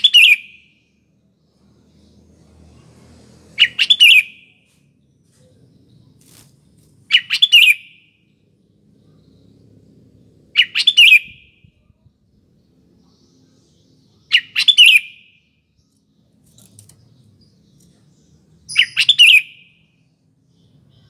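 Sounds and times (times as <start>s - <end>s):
bird singing: 0.0s - 2.4s, 3.6s - 21.0s.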